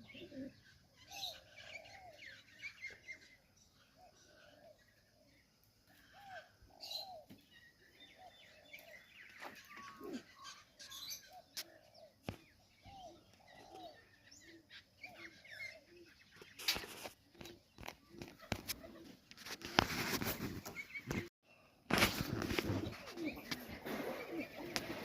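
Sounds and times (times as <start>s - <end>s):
bird calls: 0.0s - 25.0s.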